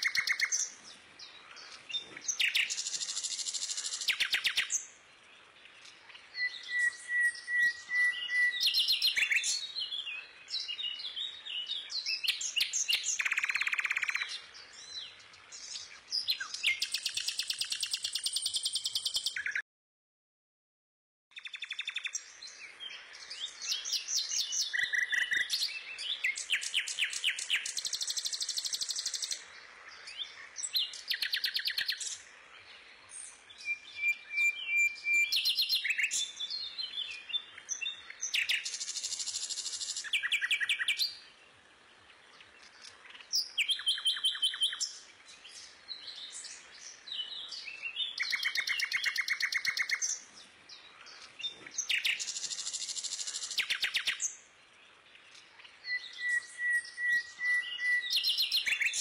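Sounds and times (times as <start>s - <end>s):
songbirds singing: 0.0s - 19.6s, 21.3s - 59.0s.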